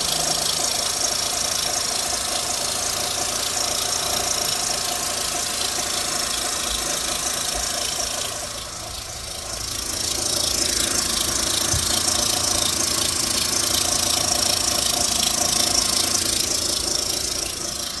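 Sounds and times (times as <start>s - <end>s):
car engine with rattling tick: 0.0s - 18.0s.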